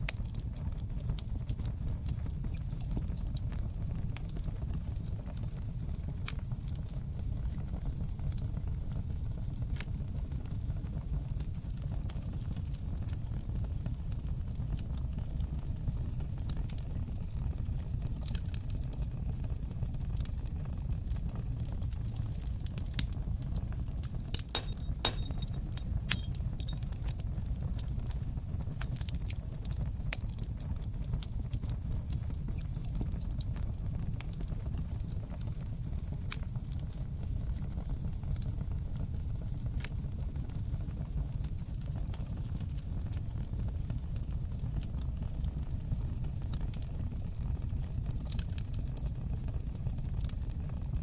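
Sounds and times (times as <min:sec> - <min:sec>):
low rumble of flame: 0:00.0 - 0:51.0
wood fire crackles and pops: 0:00.0 - 0:51.0.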